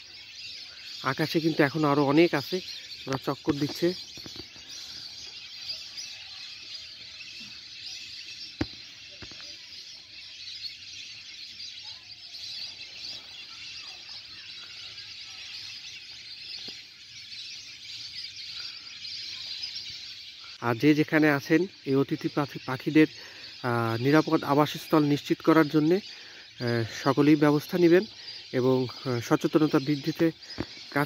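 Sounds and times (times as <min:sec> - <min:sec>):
birds calling: 0:00.0 - 0:31.0
insects chirping: 0:00.0 - 0:31.0.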